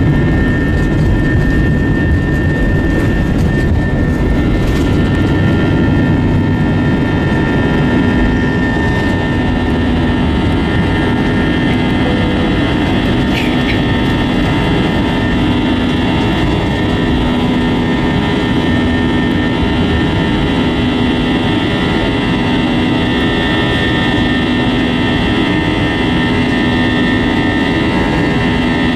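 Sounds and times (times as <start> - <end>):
high engine whine: 0.0 - 28.9
jet engines roaring in cabin: 0.0 - 28.9
low hum: 0.0 - 28.9.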